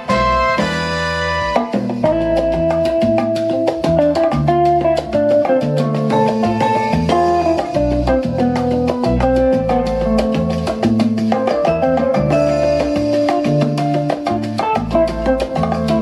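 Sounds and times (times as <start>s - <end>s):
salsa music: 0.0s - 16.0s.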